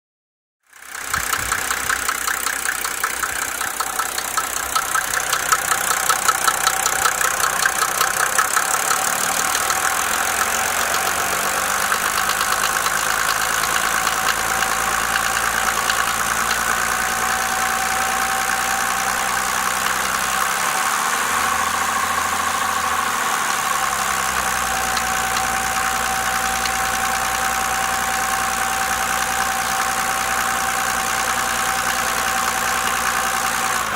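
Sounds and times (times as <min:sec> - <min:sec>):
diesel engine with rhythmic knock: 0:00.6 - 0:33.9.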